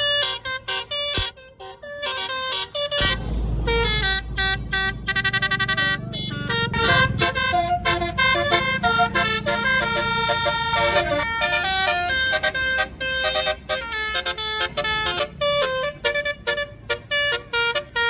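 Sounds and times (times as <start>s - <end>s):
bus engine rumbling: 0.0s - 18.0s
multi-tone bus horn melody: 0.0s - 18.0s.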